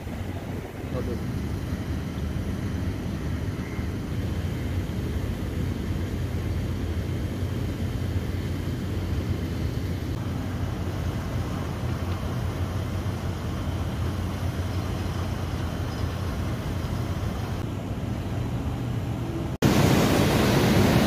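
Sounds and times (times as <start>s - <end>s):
faint hum: 0.0s - 21.0s
low mechanical rumble: 0.0s - 21.0s.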